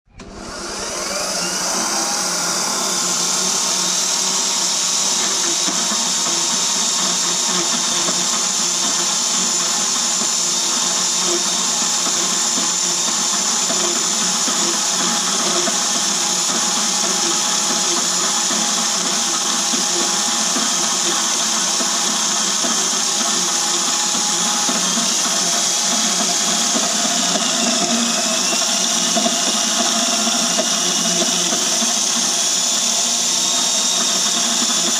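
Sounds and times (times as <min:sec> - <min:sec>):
bandsaw whirring: 0:00.1 - 0:34.9.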